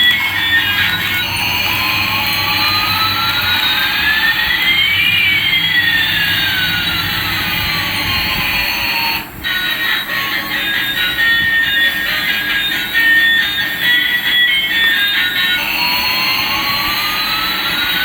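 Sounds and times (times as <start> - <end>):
jet engine hiss and whistle: 0.0 - 18.0.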